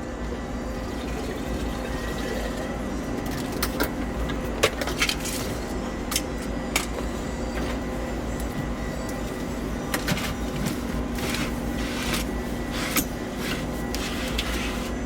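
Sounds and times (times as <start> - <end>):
mechanical motor hum: 0.0 - 15.0.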